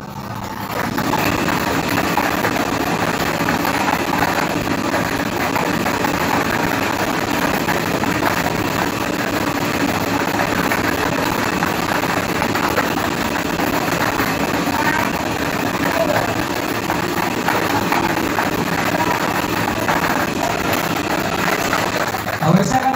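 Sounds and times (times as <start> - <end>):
machine running noise: 0.0 - 22.9
plastic balls clattering in drum: 0.6 - 22.9.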